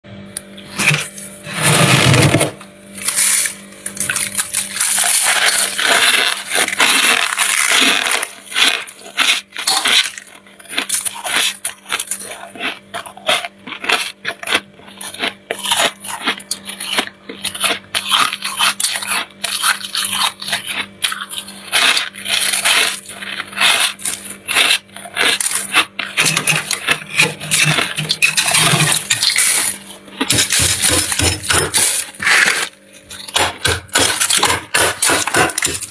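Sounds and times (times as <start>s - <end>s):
fingers scraping crunchy frost: 0.5s - 35.9s.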